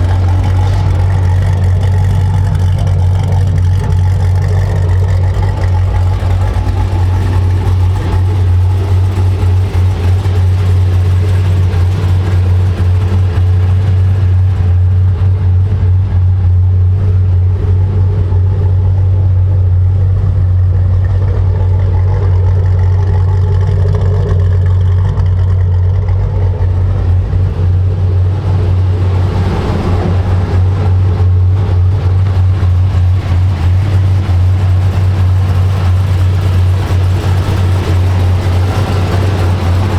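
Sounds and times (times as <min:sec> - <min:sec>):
car engine droning at cruise: 0:00.0 - 0:39.9.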